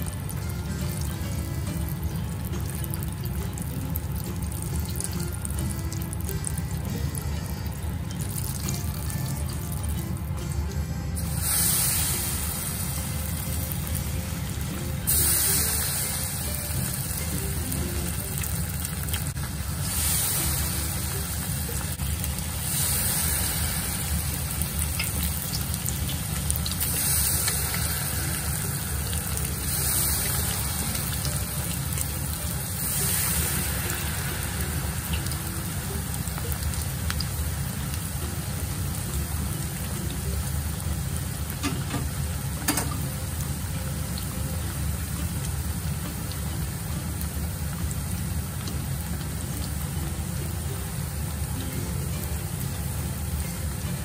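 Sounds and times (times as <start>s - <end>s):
oil sizzling deep-frying: 0.0s - 54.0s.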